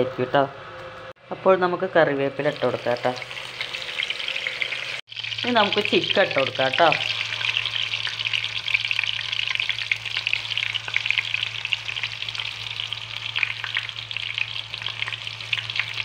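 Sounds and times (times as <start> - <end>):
chicken sizzling in hot oil: 2.4 - 16.0.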